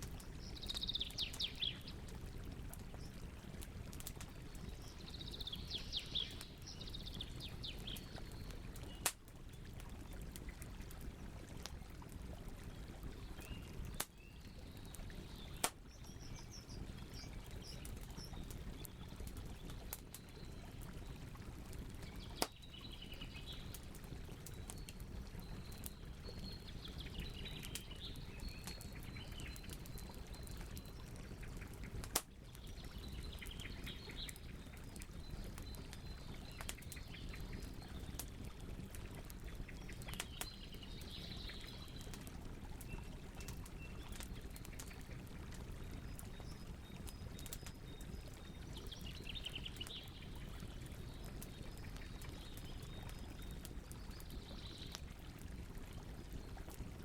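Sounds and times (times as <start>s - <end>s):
campfire crackling: 0.0s - 57.0s
songbirds chirping: 0.1s - 57.0s.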